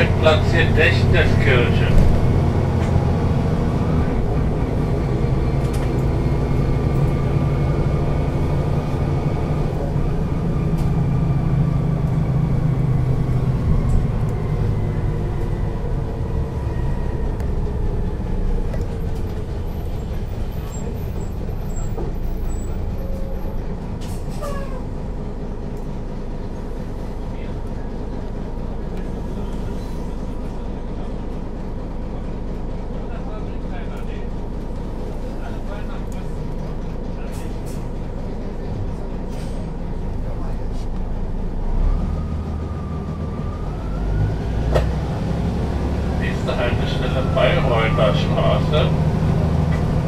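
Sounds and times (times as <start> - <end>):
bus diesel engine: 0.0 - 50.0.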